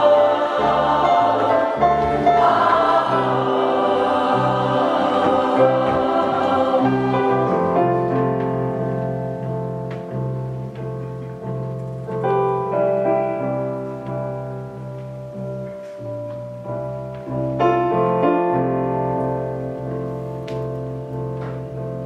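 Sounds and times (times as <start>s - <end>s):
piano chords with pulsing bass: 0.0s - 22.0s.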